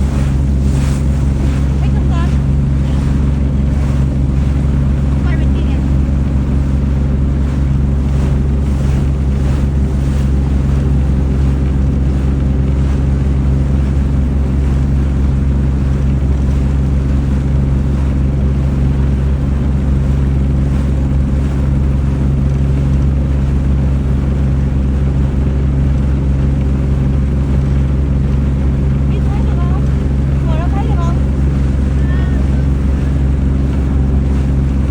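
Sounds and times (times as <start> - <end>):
boat engine droning: 0.0 - 34.9
water noise: 0.0 - 34.9
wind: 0.0 - 34.9.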